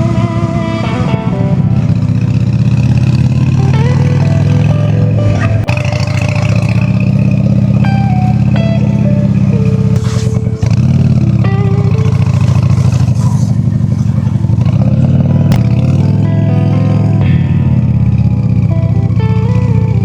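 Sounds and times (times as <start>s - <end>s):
plucked melody: 0.0s - 12.9s, 13.7s - 20.0s
motorcycle engine pulsing: 0.0s - 20.0s.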